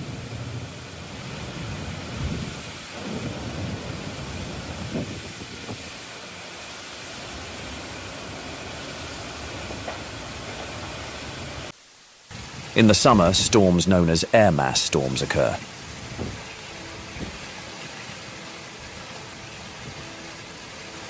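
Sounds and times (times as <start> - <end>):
storm wind: 0.0 - 11.7, 12.3 - 20.2
rain: 0.0 - 21.0.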